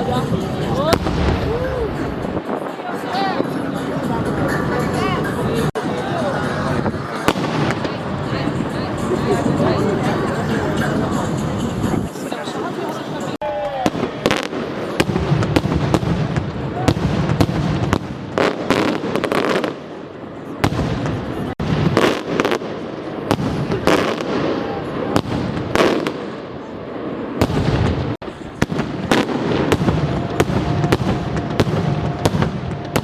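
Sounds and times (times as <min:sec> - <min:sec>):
continuous rumbling: 0:00.0 - 0:33.0
fireworks bangs and crackles: 0:00.0 - 0:33.0.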